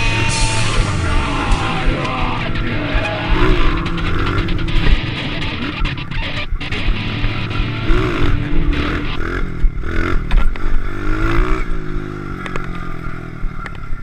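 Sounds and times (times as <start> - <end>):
sharp clicks: 0.0 - 11.5, 12.4 - 12.9
pit bike engine revving: 0.0 - 14.0.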